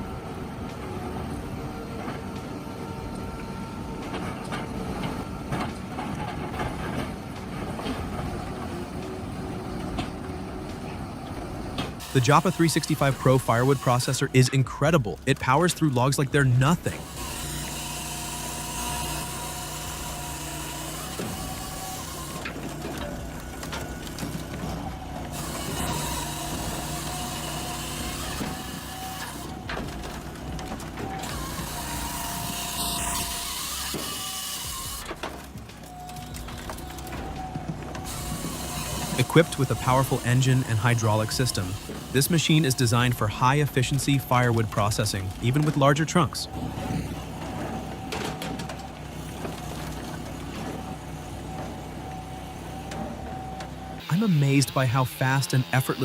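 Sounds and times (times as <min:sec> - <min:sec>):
engine and hydraulic drone: 0:00.0 - 0:56.0
log shredder running: 0:00.0 - 0:56.0.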